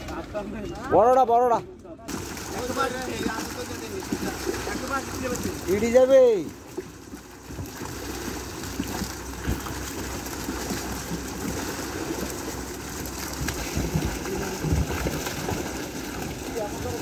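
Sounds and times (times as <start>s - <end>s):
water splashing and pouring: 2.1s - 17.0s.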